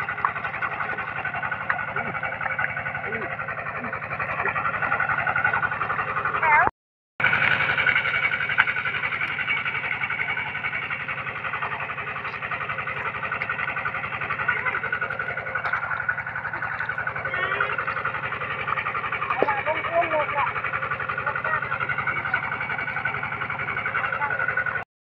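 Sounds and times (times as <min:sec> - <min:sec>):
water pump engine running: 0:00.0 - 0:24.9.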